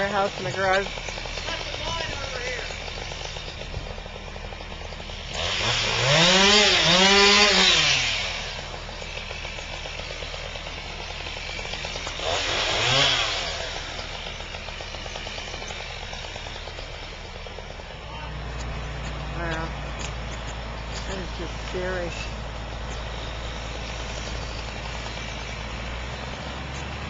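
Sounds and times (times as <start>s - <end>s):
chainsaw revving: 0.0s - 27.0s
engine drone: 0.0s - 27.0s.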